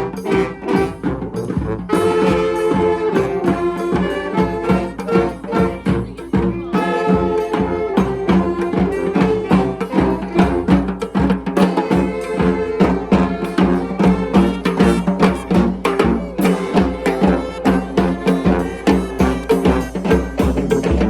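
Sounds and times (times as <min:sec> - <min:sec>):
held horn notes: 0:00.0 - 0:20.8
drum beat: 0:00.0 - 0:21.0
wood block percussion: 0:00.0 - 0:21.0.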